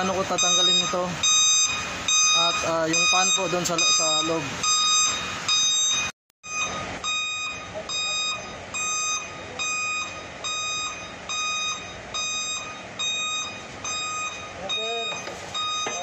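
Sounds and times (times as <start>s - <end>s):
high-pitched warning beeps: 0.0s - 16.0s.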